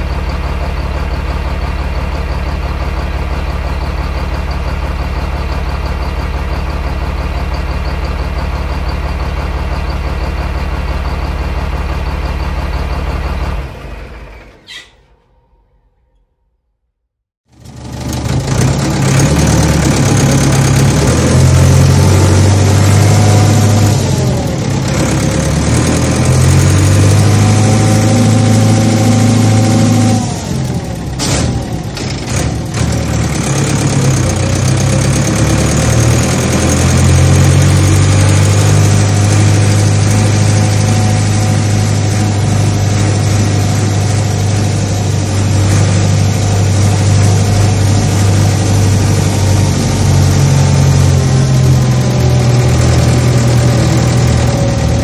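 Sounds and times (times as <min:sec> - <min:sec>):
diesel engine running loudly: 0:00.0 - 0:14.9, 0:17.5 - 0:55.0.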